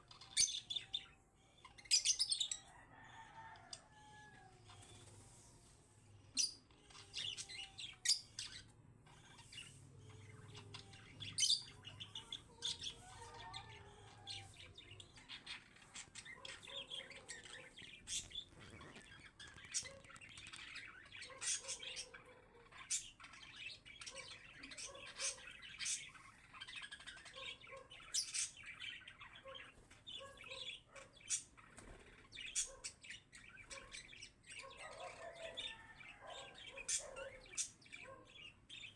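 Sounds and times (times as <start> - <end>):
parakeets chirping and calling: 0.0 - 38.9.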